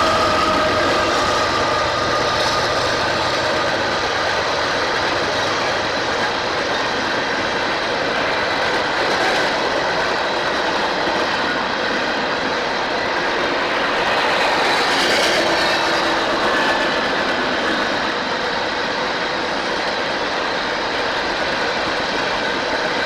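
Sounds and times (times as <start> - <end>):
train wheels roaring on track: 0.0 - 23.0.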